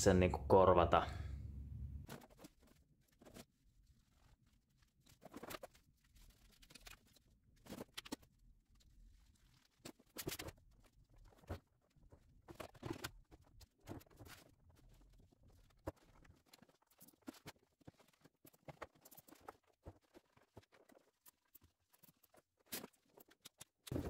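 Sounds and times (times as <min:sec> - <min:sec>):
small parts clicking and rustling: 0:02.0 - 0:24.0.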